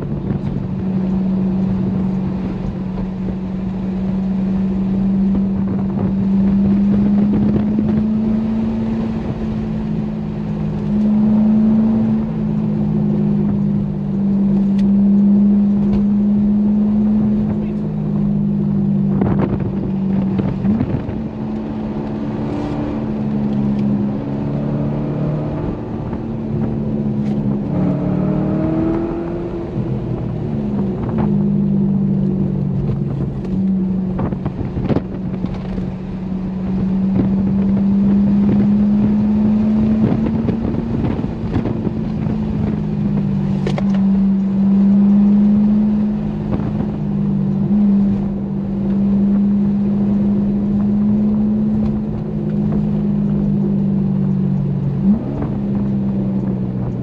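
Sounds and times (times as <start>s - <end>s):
car engine drone: 0.0s - 57.0s.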